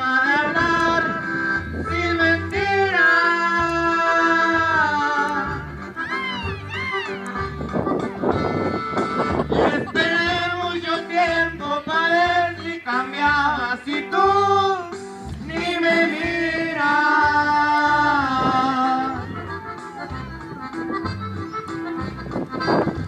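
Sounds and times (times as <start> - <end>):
men singing with amplified band: 0.0 - 7.2, 9.4 - 20.8.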